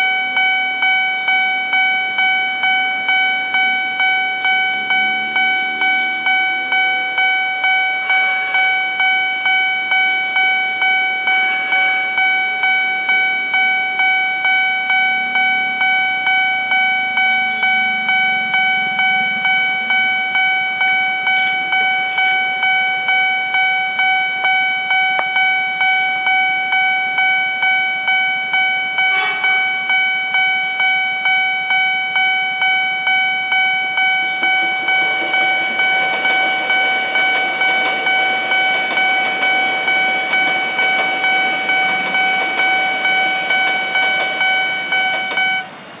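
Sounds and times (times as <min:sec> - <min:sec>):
level crossing warning bell: 0:00.0 - 0:46.0.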